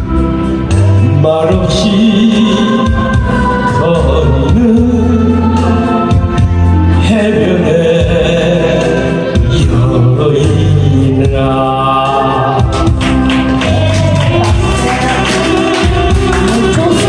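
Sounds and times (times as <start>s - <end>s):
backing track with beat: 0.0s - 17.0s
man singing into microphone: 0.9s - 13.0s, 14.5s - 17.0s.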